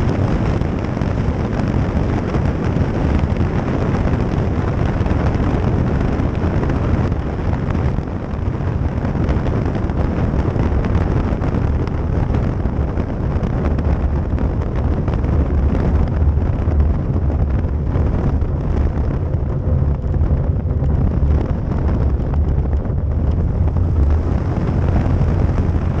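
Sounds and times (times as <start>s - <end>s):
propeller engine running: 0.0s - 26.0s
wind buffeting microphone: 0.0s - 26.0s.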